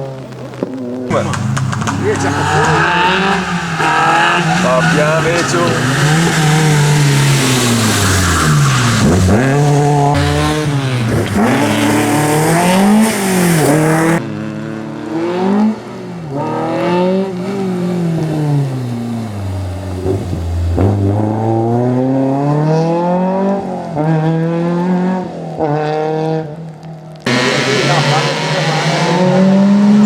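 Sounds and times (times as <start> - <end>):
rally car engine revving: 0.8 - 30.0.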